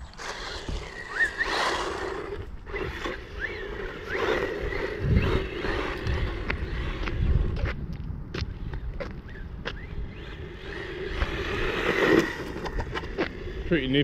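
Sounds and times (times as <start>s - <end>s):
toy truck electric motor whining: 0.0s - 7.7s, 9.8s - 14.0s.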